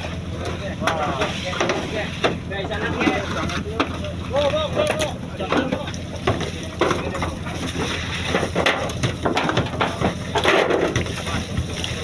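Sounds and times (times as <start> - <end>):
boat engine droning: 0.0 - 12.0
crunching and clattering knocks: 0.4 - 12.0.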